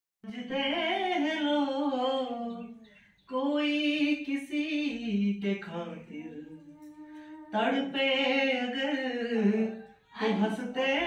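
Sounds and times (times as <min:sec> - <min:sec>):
man singing: 0:00.2 - 0:11.0.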